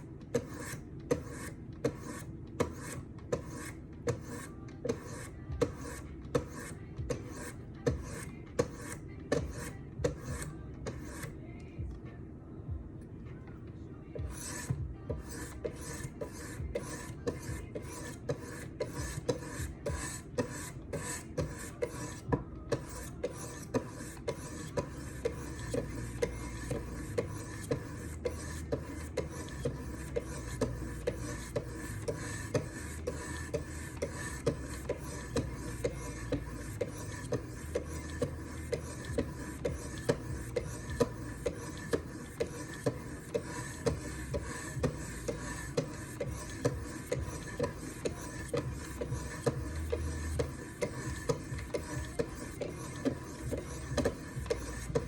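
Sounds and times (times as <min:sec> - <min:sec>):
knife rasping on sharpening stone: 0:00.4 - 0:11.3, 0:14.3 - 0:55.0.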